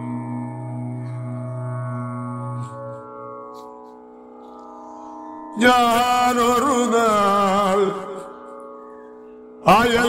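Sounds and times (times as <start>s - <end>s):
devotional music long held note: 0.0s - 10.0s.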